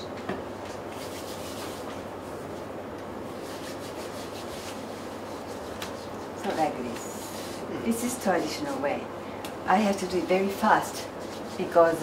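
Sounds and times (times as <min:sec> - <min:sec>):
room noise: 0:00.0 - 0:12.0.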